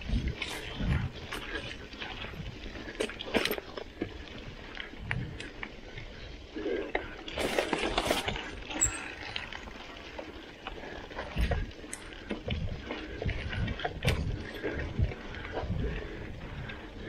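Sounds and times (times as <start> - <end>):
bike rattling: 0.0 - 17.0
bike tyres on dirt: 0.0 - 17.0.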